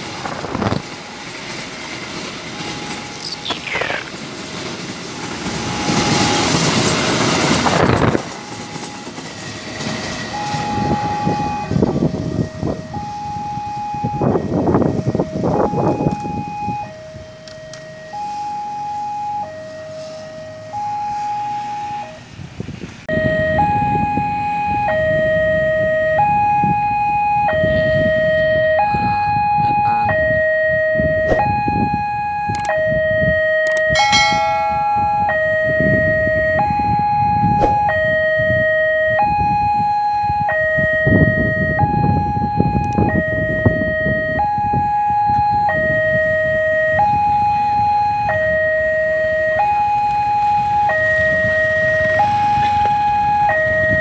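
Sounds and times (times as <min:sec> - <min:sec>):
road traffic rumble: 0:00.0 - 0:54.0
two-tone level crossing alarm: 0:05.2 - 0:22.2, 0:23.1 - 0:54.0.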